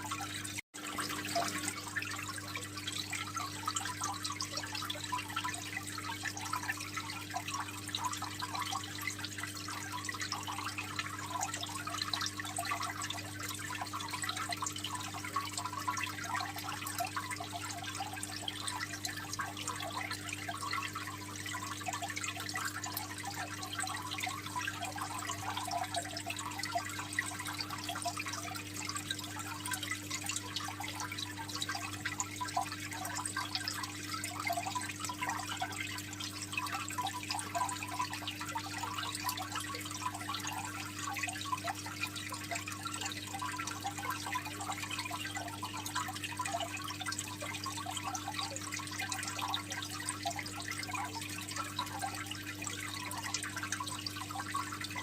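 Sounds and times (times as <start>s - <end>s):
aquarium water trickling: 0.0s - 55.0s
small drips pattering: 0.0s - 55.0s.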